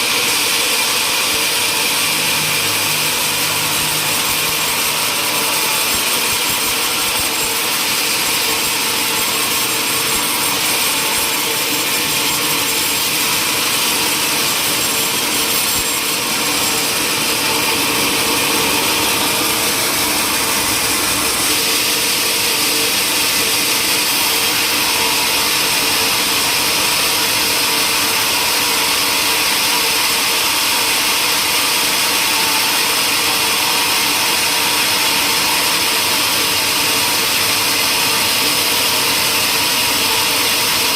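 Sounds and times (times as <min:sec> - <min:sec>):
saw cutting through wood: 0:00.0 - 0:40.9.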